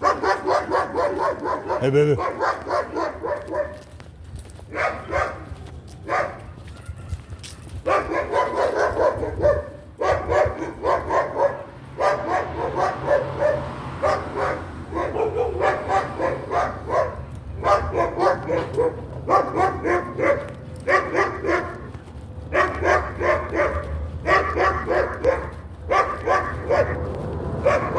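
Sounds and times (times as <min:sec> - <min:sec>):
dog barking: 0:00.0 - 0:04.0, 0:04.6 - 0:27.9.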